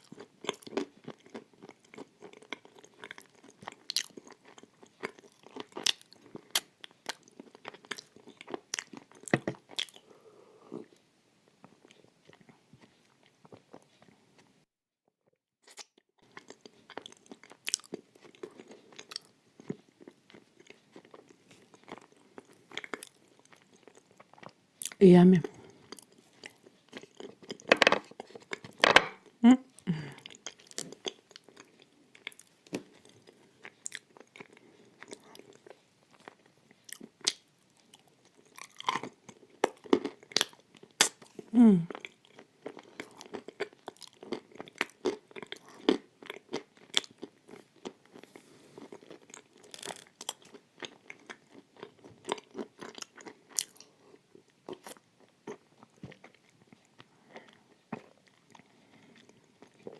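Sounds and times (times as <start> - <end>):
crunching and chewing: 0.0 - 10.2, 15.7 - 29.3, 30.1 - 59.9.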